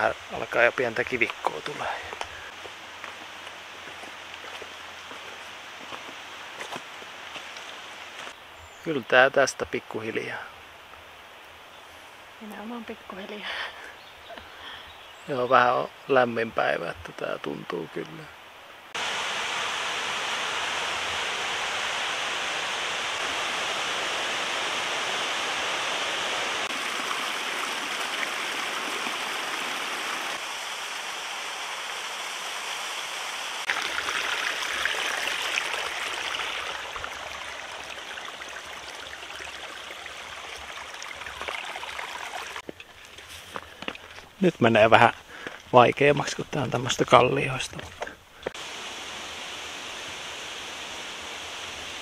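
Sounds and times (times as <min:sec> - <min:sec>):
waterfall and stream rushing: 0:00.0 - 0:08.6, 0:15.4 - 0:52.0.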